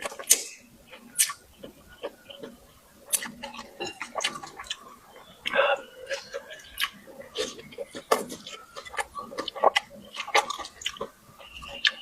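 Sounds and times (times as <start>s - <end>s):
mouth smacks and clicks: 0.0s - 12.0s
person chewing food: 0.0s - 12.0s.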